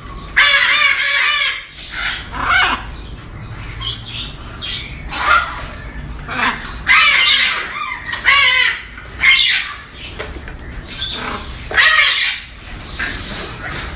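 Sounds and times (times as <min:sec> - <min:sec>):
bird squawking: 0:00.1 - 0:13.9.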